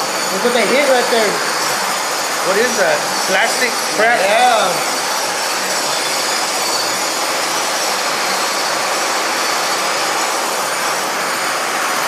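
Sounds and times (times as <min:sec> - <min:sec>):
machine running: 0:00.0 - 0:12.0.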